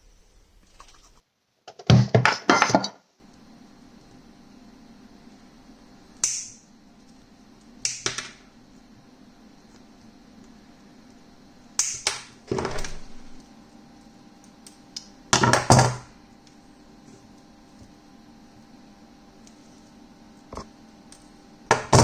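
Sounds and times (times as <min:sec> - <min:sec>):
steady low hum: 0:03.2 - 0:22.0.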